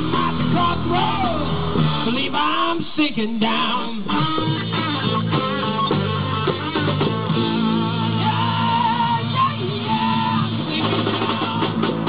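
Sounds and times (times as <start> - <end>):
person singing: 0.0 - 11.9
drums: 0.0 - 12.0
electric bass: 0.0 - 12.0
electric guitar: 0.0 - 12.0.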